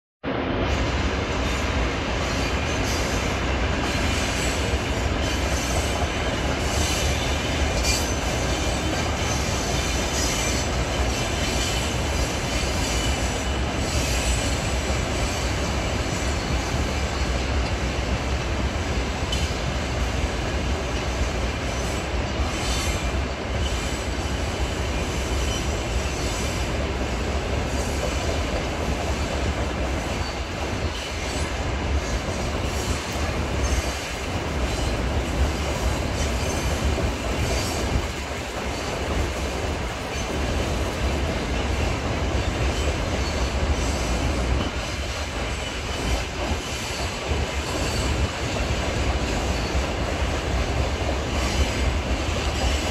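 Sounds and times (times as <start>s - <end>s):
freight train wagons rumbling: 0.2s - 52.9s.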